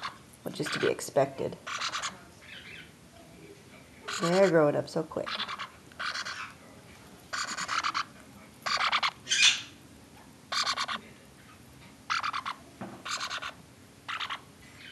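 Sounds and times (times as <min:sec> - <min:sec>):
parrot chicks begging calls: 0:00.0 - 0:03.0, 0:04.0 - 0:06.6, 0:07.3 - 0:09.8, 0:10.5 - 0:14.9.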